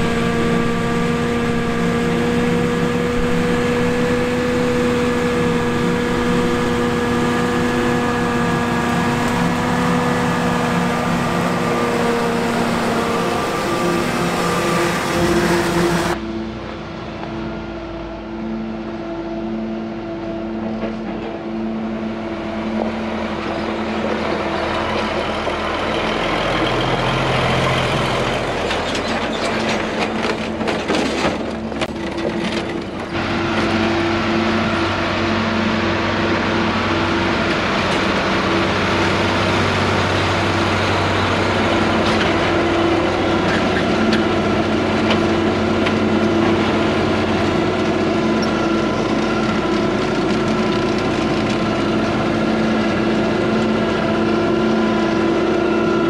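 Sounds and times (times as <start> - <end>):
engine humming: 0.0 - 56.0
farm machinery running: 0.0 - 56.0.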